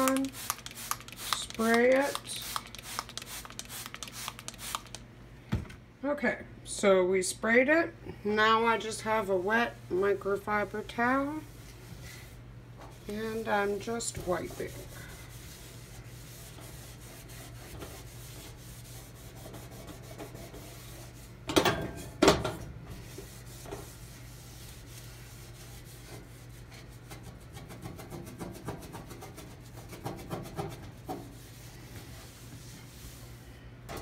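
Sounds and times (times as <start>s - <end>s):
wet cloth rubbing stove top: 0.0s - 5.0s, 8.7s - 21.5s, 22.8s - 33.5s.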